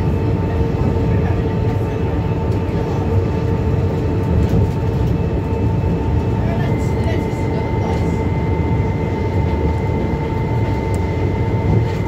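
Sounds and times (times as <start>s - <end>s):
metro train rumbling with whine: 0.0s - 12.0s.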